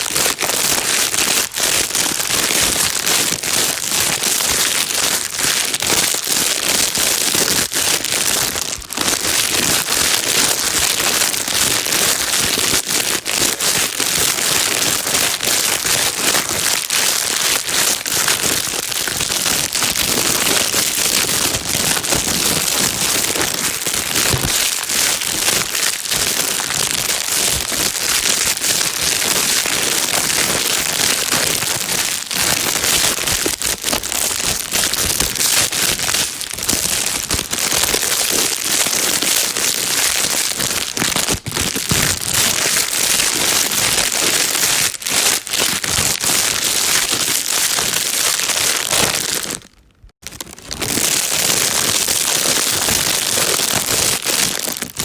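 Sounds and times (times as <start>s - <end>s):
plastic bag crinkling: 0.0s - 55.0s.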